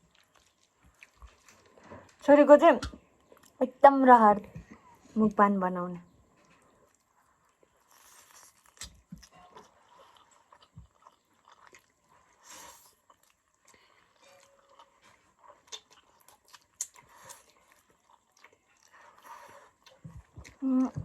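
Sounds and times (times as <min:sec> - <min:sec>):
person chewing noodles: 0:00.0 - 0:02.2, 0:06.3 - 0:21.0.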